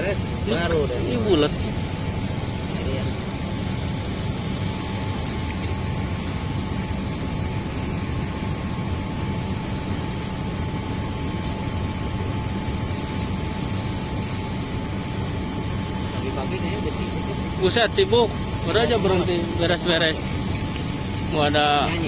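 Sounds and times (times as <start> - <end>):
faint constant whine: 0.0 - 22.0
machinery drone: 0.0 - 22.0.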